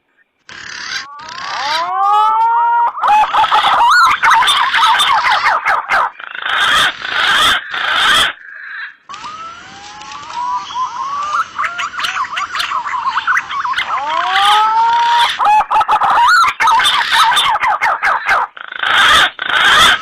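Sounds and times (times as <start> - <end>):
pigeons whistling chorus: 3.0 - 8.4, 9.1 - 20.0.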